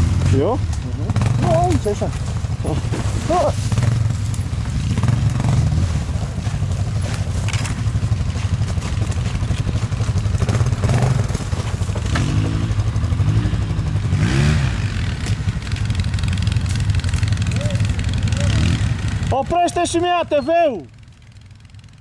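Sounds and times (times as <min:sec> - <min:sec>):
atv engines rumbling: 0:00.0 - 0:22.0.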